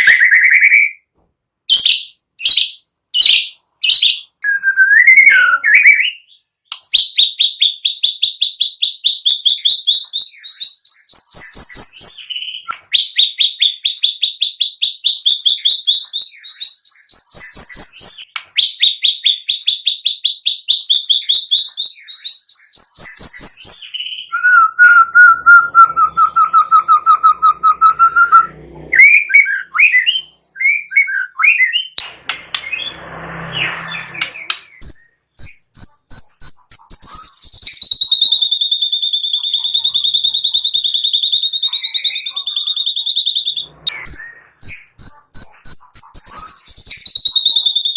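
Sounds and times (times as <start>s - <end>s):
songbird singing: 1.7s - 47.9s.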